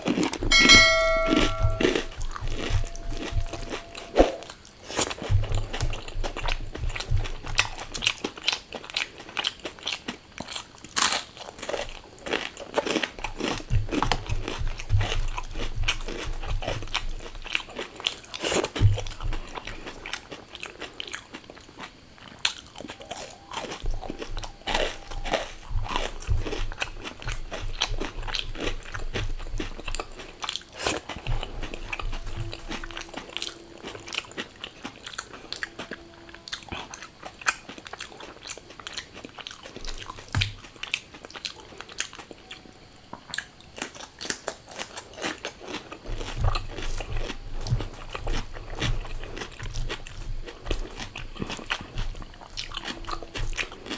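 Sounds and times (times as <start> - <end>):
person crunching and chewing: 3.2 - 42.4, 43.3 - 53.9.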